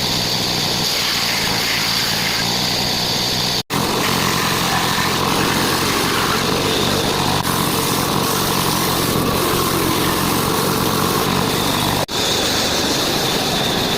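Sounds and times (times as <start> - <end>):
power saw cutting wood: 0.0 - 13.9.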